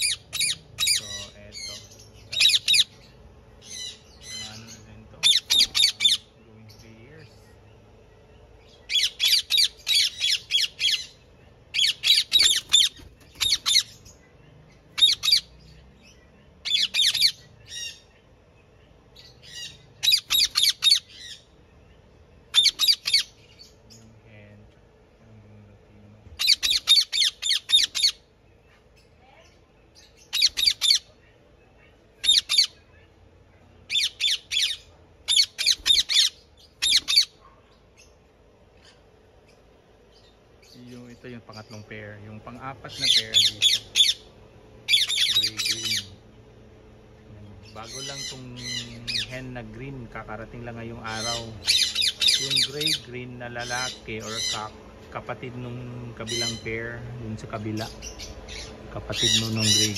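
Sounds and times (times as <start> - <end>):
parakeets squawking: 0.0 - 59.9.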